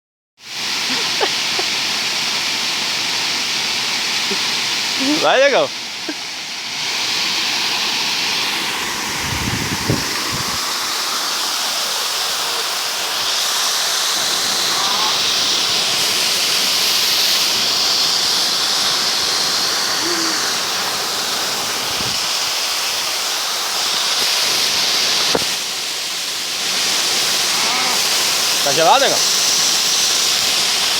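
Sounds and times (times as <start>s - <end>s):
waterfall rushing: 0.4s - 30.9s.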